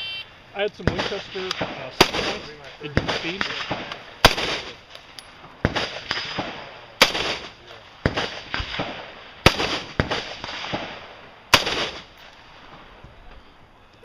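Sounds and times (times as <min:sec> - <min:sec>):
rifle shots: 0:00.7 - 0:12.7.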